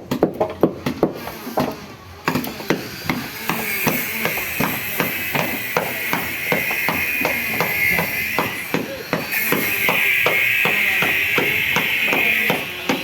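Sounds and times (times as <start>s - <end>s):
hammer striking wooden hull: 0.0s - 13.0s.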